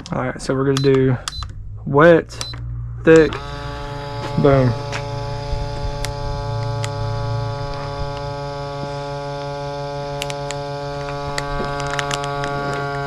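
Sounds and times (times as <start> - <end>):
vacuum sealer pump humming: 2.4 - 13.0.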